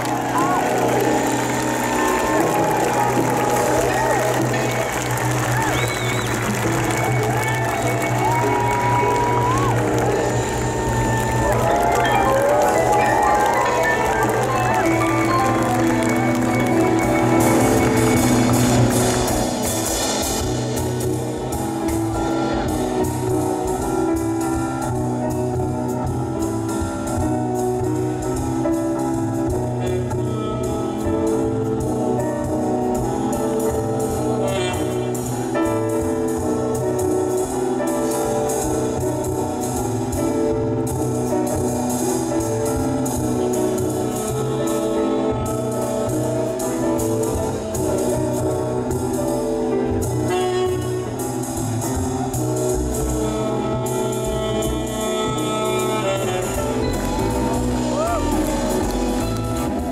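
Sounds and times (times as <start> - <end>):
tenor saxophone: 0.0 - 25.8, 28.0 - 59.9
upright bass: 0.0 - 59.9.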